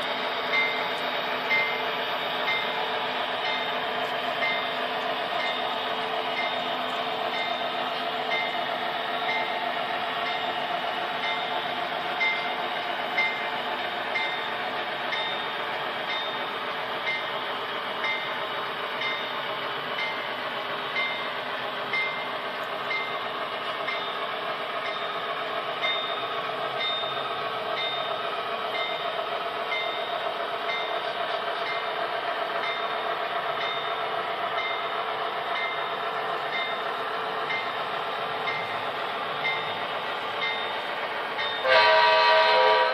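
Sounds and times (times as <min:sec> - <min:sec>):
light regular clicks of rolling cars: 0:00.0 - 0:41.9
model train mechanical hum: 0:00.0 - 0:42.9.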